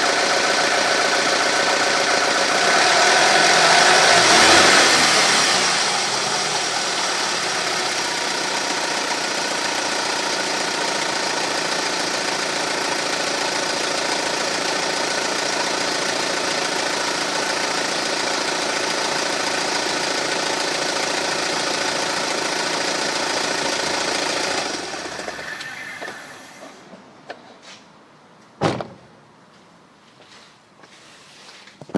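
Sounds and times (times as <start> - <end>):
car engine running with rattle: 0.0 - 26.8.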